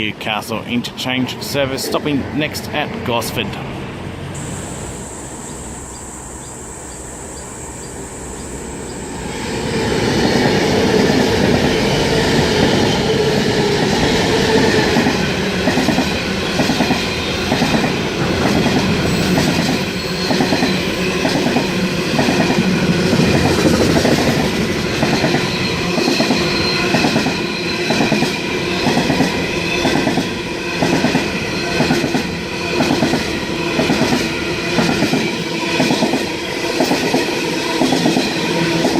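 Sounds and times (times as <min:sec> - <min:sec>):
train rumble: 0:00.6 - 0:38.9.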